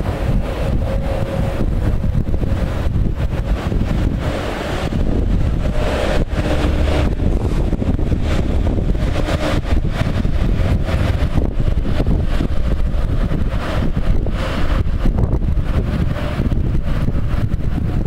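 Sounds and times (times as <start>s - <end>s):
train rumbling past: 0.0s - 18.0s
wind buffeting microphone: 0.0s - 18.0s.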